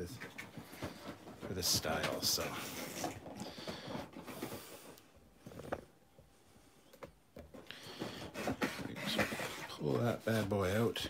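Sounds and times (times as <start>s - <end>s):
packaging rustling and scraping: 0.2s - 6.0s, 7.5s - 11.0s.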